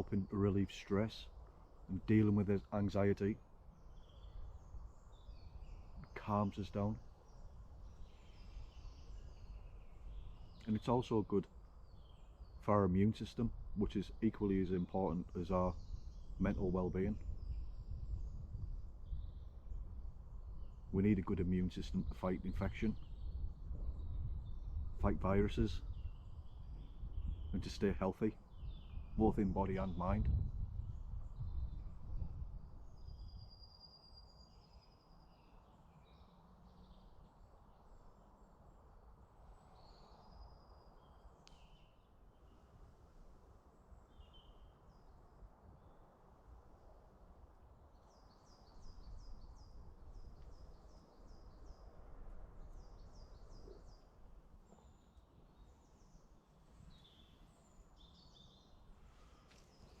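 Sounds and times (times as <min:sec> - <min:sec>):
faint woodland birdsong: 0:00.0 - 1:00.0
songbird singing: 0:00.0 - 1:00.0.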